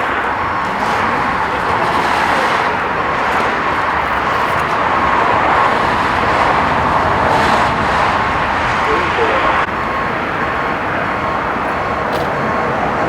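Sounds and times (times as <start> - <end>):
motor vehicle rushing hum: 0.0 - 13.0.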